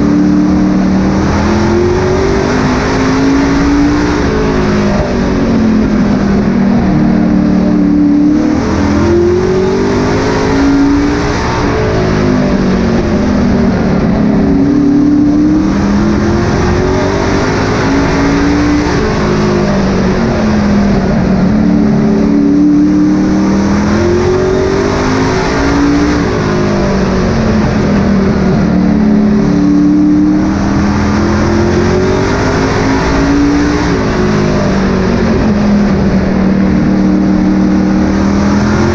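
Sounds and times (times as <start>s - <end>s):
racing truck engine accelerating: 0.0s - 38.9s.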